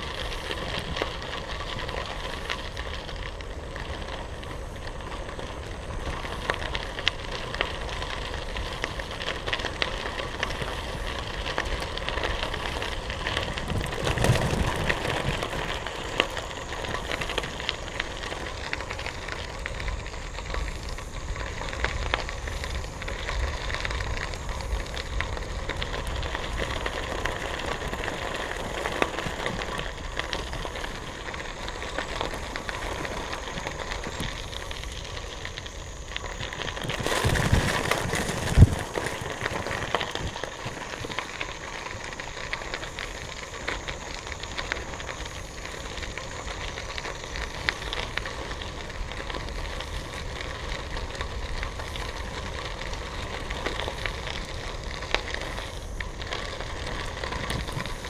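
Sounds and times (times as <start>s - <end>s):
bicycle tyres crunching on gravel: 0.0s - 58.0s.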